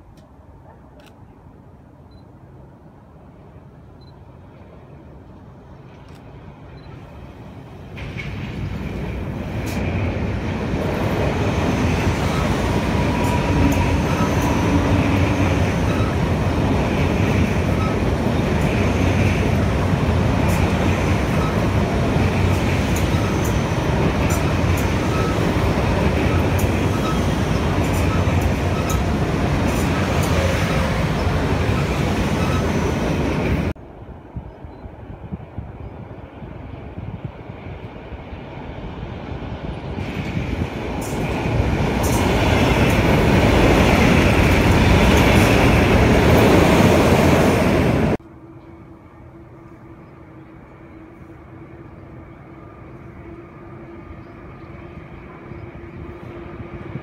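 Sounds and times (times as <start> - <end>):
train rushing past on bridge: 5.6 - 34.4, 35.0 - 57.0.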